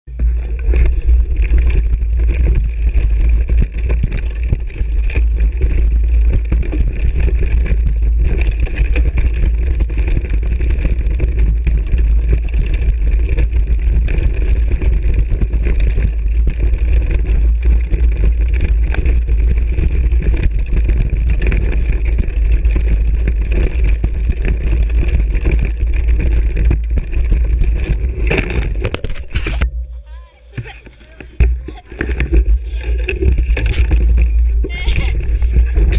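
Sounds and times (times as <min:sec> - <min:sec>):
bike tyre rumble on gravel: 0:00.0 - 0:35.9
tyre and frame rattle: 0:00.1 - 0:35.9
wind buffeting: 0:00.6 - 0:35.9.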